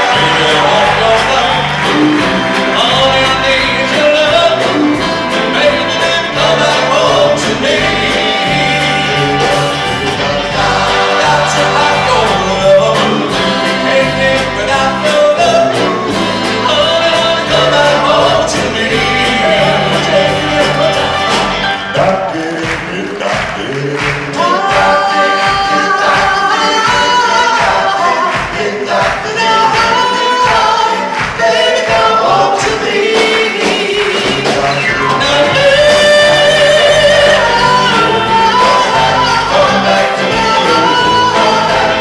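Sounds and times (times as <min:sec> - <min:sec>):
electric guitar: 0:00.0 - 0:30.6, 0:33.1 - 0:42.0
drums: 0:00.0 - 0:42.0
male vocal group singing in harmony: 0:00.0 - 0:42.0.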